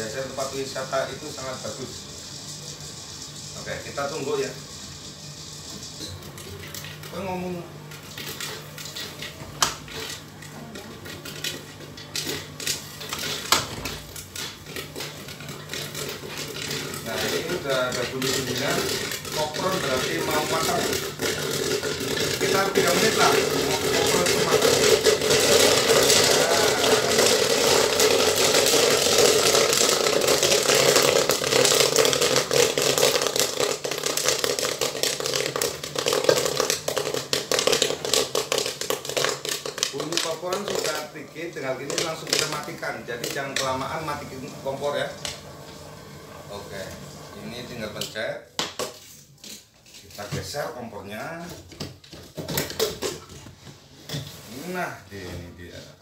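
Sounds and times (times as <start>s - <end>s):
popcorn popping: 0.0s - 45.8s, 46.4s - 53.5s
stirring motor hum: 0.0s - 48.1s.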